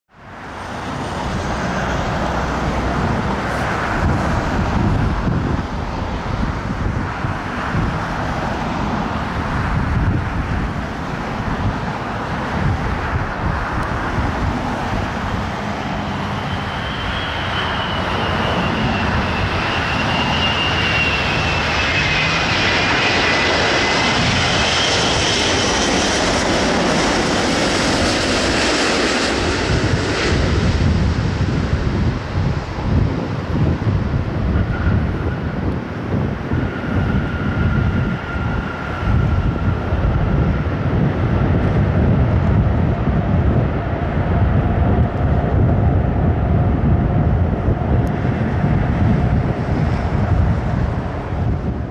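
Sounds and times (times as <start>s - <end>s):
jet engines rumbling: 0.1s - 51.9s.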